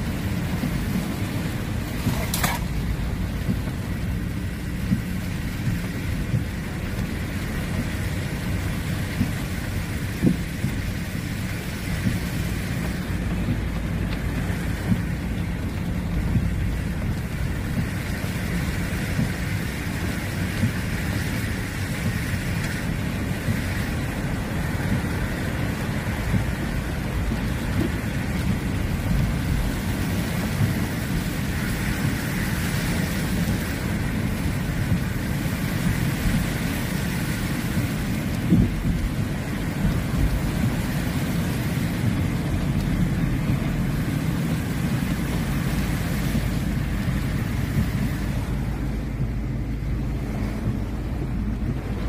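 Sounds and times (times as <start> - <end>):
heavy rain on a car: 0.0 - 52.0
tyres rumbling on a wet road: 0.0 - 52.0.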